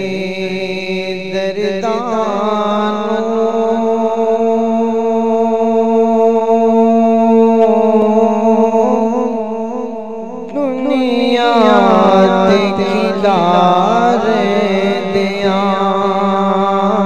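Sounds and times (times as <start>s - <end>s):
wordless ornamented singing: 0.0s - 17.0s
hummed drone: 2.0s - 17.0s.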